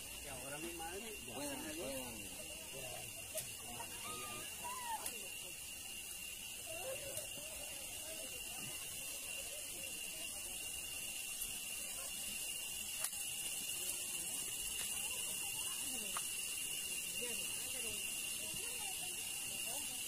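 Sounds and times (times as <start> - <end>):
faint voices: 0.0 - 20.0
insects droning: 0.0 - 20.0.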